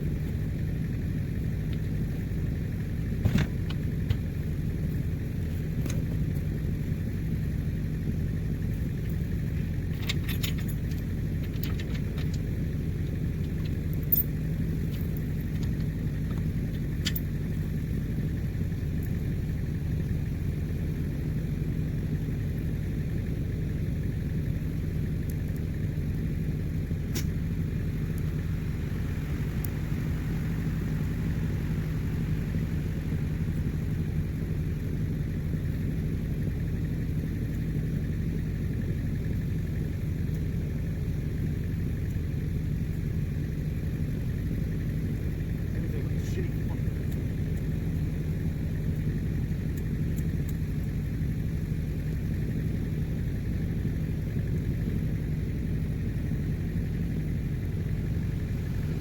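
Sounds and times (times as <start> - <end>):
quad bike engine idling: 0.0 - 59.0.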